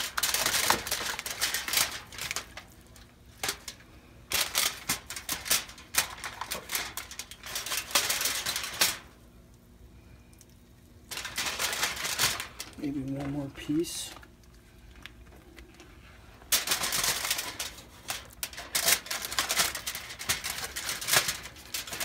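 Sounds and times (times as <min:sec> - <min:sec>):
aluminium foil crinkling: 0:00.0 - 0:09.6, 0:10.3 - 0:22.0.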